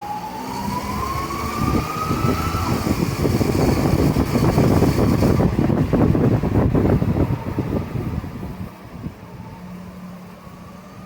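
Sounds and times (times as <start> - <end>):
engine and road rumble: 0.0 - 11.0
rising whine: 0.0 - 11.0.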